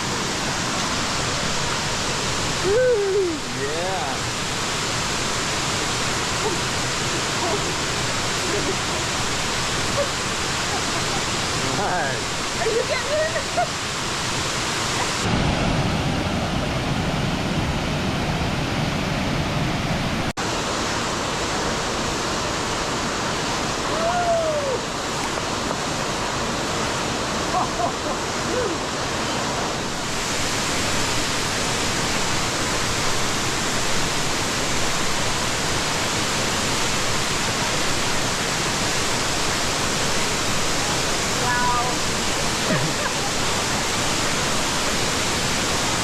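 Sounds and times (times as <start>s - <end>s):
waterfall rushing into pool: 0.0s - 46.0s.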